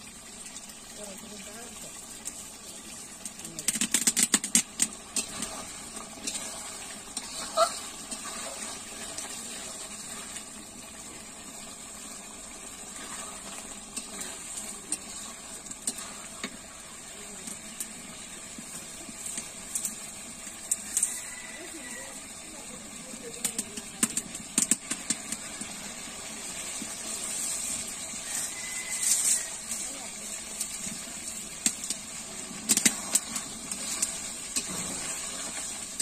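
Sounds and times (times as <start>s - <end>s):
curry bubbling and sizzling: 0.0s - 36.0s.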